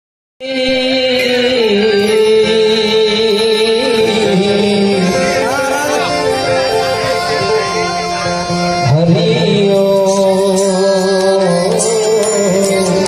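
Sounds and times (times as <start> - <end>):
harmonium melody: 0.4 - 13.0.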